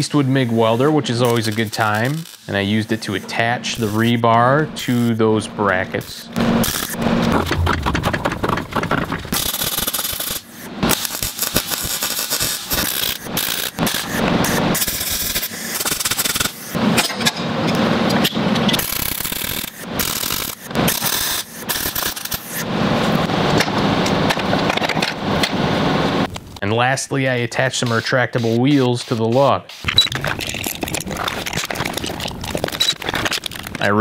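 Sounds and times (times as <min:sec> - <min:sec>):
welding arc crackling and hissing: 0:00.0 - 0:07.6, 0:09.3 - 0:16.8, 0:18.7 - 0:24.3, 0:25.4 - 0:34.0.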